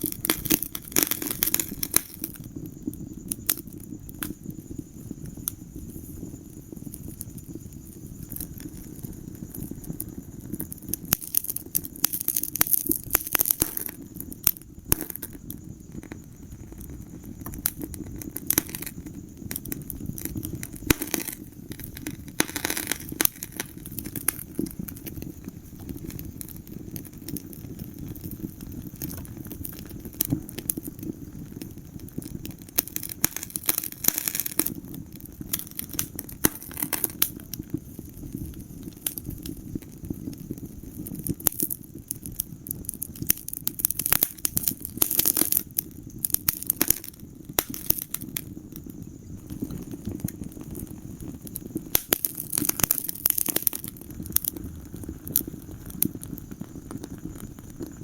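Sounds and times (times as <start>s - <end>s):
sharp pops of fire: 0.0s - 58.0s
wood fire crackling: 0.0s - 58.0s.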